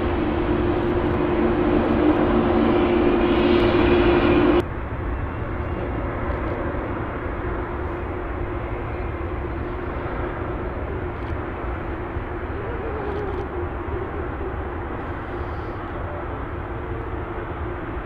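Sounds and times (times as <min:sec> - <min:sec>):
jet engines droning: 0:00.0 - 0:18.0.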